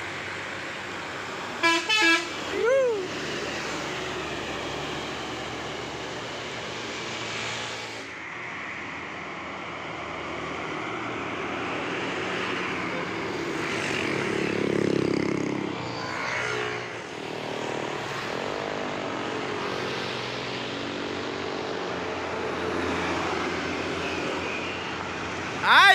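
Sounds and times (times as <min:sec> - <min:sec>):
heavy vehicle engine passing: 0:00.0 - 0:08.2, 0:10.0 - 0:25.9.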